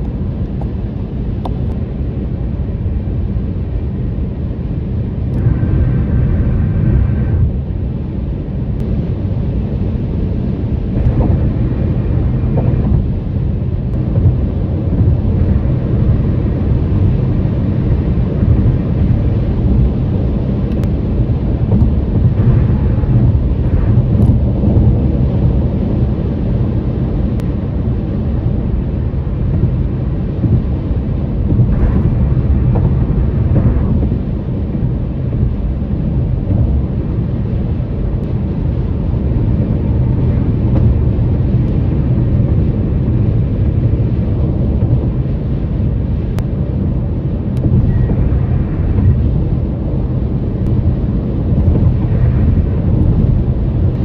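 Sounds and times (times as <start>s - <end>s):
tyres rumbling on road: 0.0s - 54.0s.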